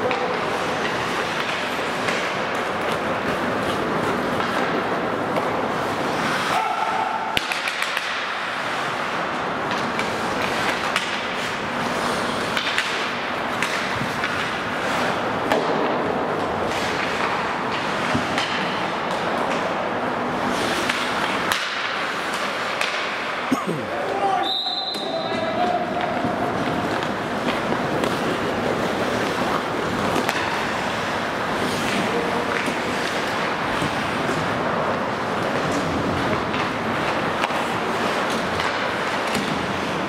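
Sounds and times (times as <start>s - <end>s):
hockey sticks and puck clacking: 0.0s - 40.0s
skate blades scraping ice: 0.0s - 40.0s.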